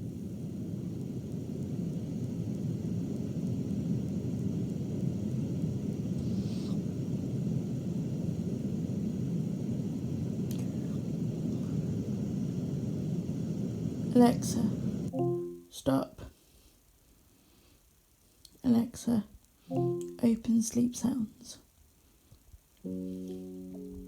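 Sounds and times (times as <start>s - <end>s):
brown noise from speaker: 0.0s - 24.0s.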